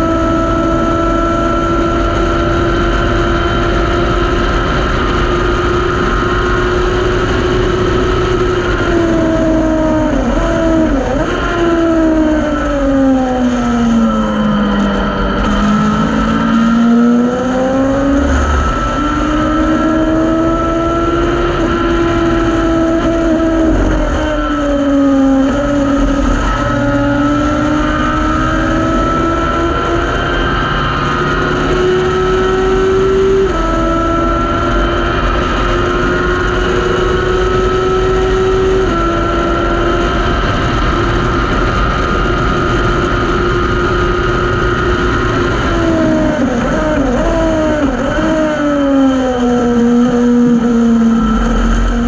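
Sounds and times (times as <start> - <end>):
race car engine at full throttle: 0.0 - 52.0.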